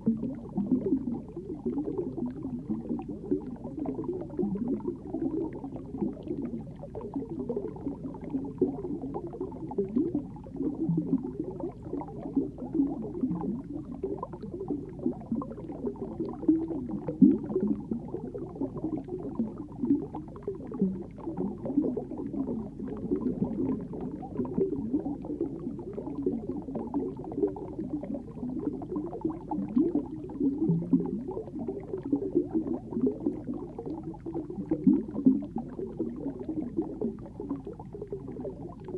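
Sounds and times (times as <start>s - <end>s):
underwater gurgling and bubbling: 0.0s - 38.9s.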